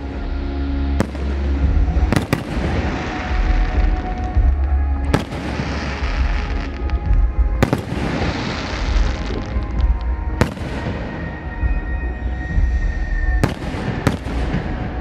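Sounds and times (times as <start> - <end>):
fireworks crackling: 0.0 - 15.0
low rumble: 0.0 - 15.0
fireworks bangs: 1.0 - 11.9, 13.3 - 15.0.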